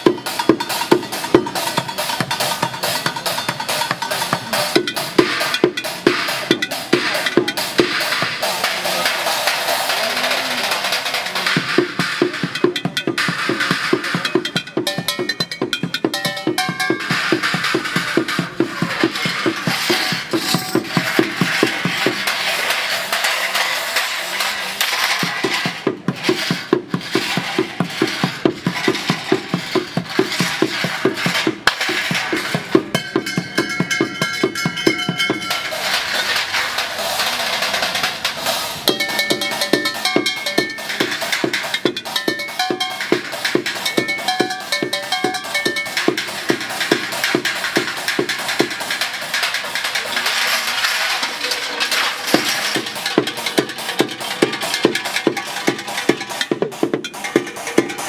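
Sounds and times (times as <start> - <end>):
drumming on metal objects: 0.0 - 58.0.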